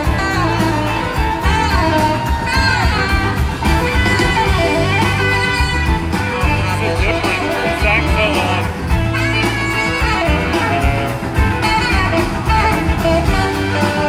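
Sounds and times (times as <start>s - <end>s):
live band playing through pa: 0.0s - 14.0s
sliding guitar lead line: 0.0s - 14.0s.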